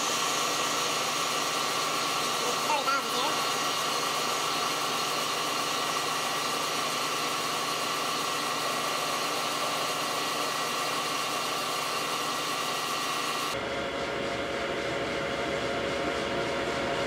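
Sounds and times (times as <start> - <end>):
metal lathe cutting: 0.0 - 17.0.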